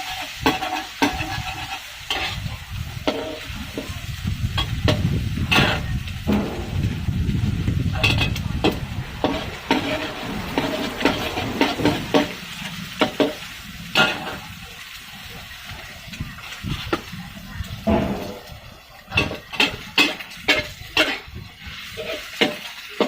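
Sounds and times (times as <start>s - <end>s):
spatula scraping a wok: 0.0s - 17.2s, 17.8s - 23.0s
food sizzling: 0.0s - 23.0s.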